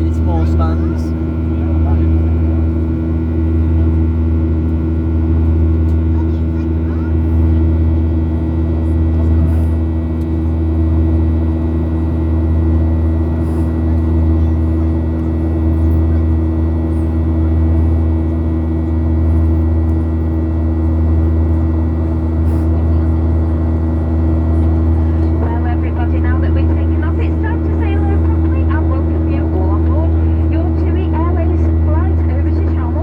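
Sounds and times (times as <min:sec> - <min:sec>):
airliner cabin drone: 0:00.0 - 0:33.0.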